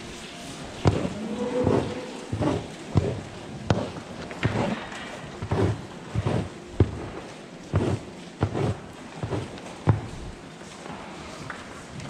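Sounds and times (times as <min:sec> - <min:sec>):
scraper scraping concrete: 0:00.2 - 0:10.3.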